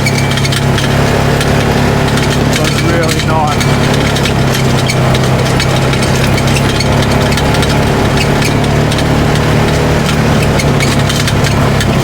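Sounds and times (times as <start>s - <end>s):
engine running: 0.0s - 12.0s
small clicks and rattles: 0.0s - 12.0s.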